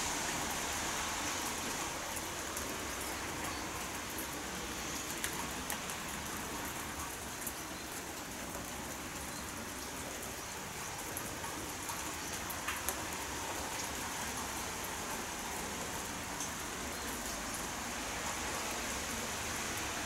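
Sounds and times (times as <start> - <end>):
rain hissing: 0.0 - 20.0
raindrops ticking: 1.3 - 20.0.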